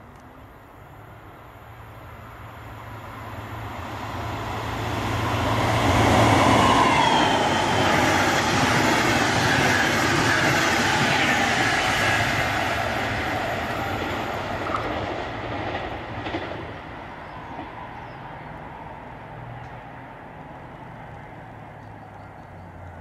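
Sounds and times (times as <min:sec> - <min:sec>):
train wheel and rail noise: 0:00.0 - 0:23.0.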